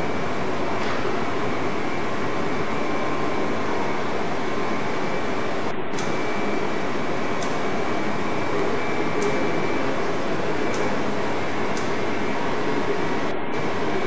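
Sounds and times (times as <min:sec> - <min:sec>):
machine humming and hissing: 0:00.0 - 0:14.0.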